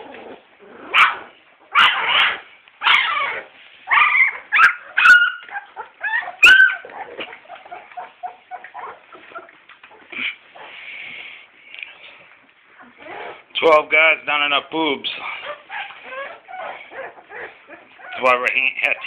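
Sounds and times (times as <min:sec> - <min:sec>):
puppies squealing and whimpering: 0:00.0 - 0:11.0, 0:12.7 - 0:13.5, 0:15.1 - 0:19.0.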